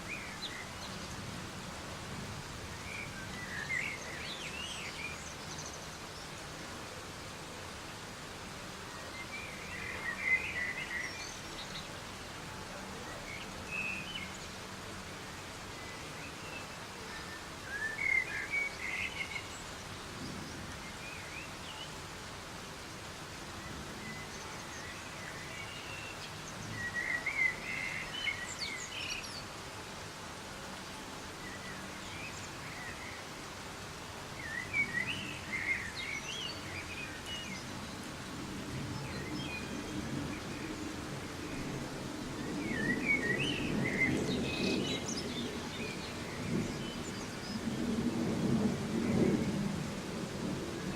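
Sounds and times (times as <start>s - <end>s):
soft rain hiss: 0.0s - 50.9s.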